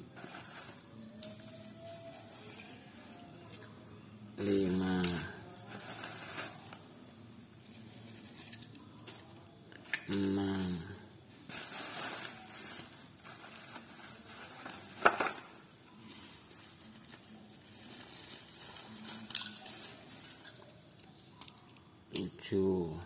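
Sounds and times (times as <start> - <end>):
bubble wrap crinkling: 0.0 - 3.7, 4.4 - 21.7.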